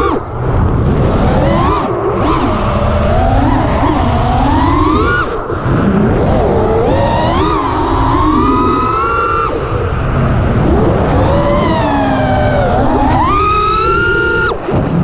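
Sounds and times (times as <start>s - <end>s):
drone motors whining: 0.0s - 15.0s
wind buffeting microphone: 0.0s - 15.0s.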